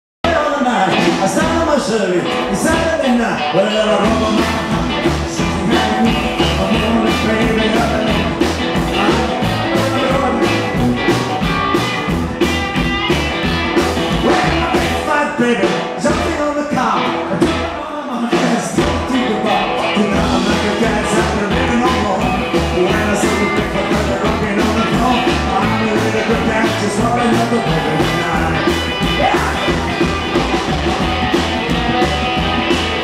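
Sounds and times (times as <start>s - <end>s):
rockabilly band playing: 0.2s - 33.0s.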